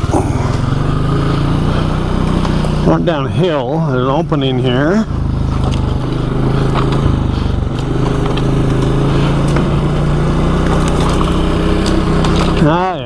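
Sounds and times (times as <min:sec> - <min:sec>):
atv engine at low revs: 0:00.0 - 0:13.0.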